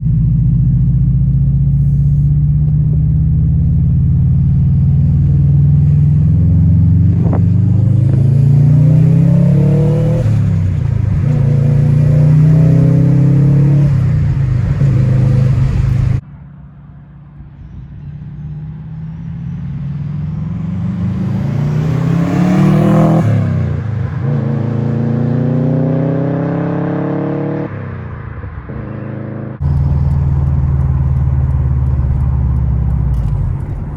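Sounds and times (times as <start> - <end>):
car engine revving: 0.0 - 16.2, 18.7 - 27.7, 28.7 - 33.9.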